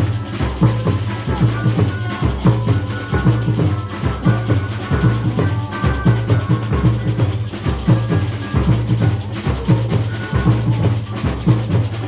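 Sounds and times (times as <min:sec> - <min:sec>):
samba band playing: 0:00.0 - 0:12.0
surdo bass drums pounding: 0:00.0 - 0:12.0.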